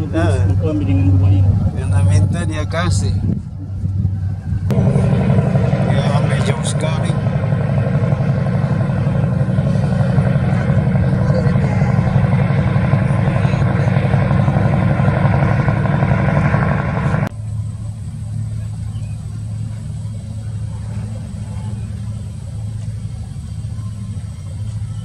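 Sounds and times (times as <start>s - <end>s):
ship engine droning: 0.0s - 25.0s.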